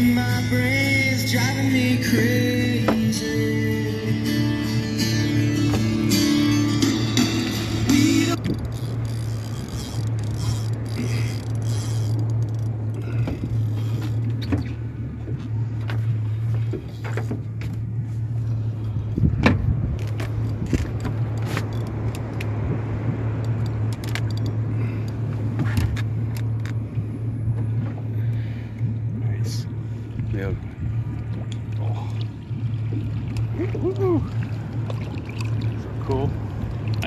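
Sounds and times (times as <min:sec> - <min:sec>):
outboard motor idling: 0:00.0 - 0:37.0.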